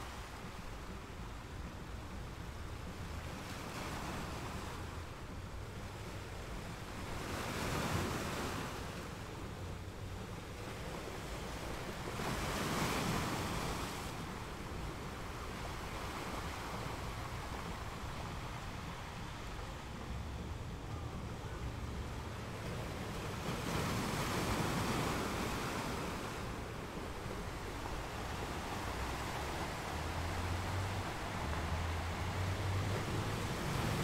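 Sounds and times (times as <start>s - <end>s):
ocean surf on shore: 0.0s - 34.0s
waves breaking: 0.0s - 34.0s.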